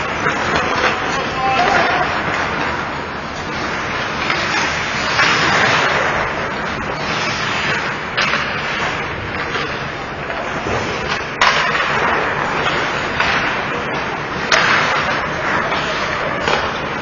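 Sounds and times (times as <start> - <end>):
rink hubbub: 0.0 - 17.0
skate blades scraping ice: 0.0 - 17.0
stick and puck clacks: 0.0 - 17.0.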